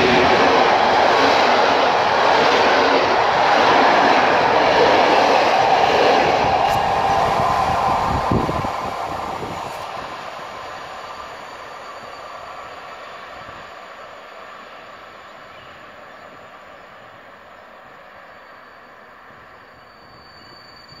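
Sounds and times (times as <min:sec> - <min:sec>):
train coaches rolling on track: 0:00.0 - 0:21.0.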